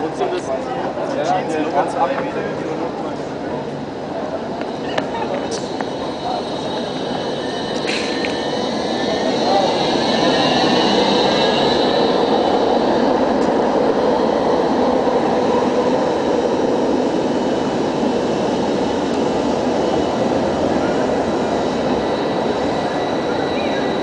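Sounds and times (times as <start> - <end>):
tram drive whine: 0.0 - 24.0
tram wheels rumbling on rails: 0.0 - 24.0.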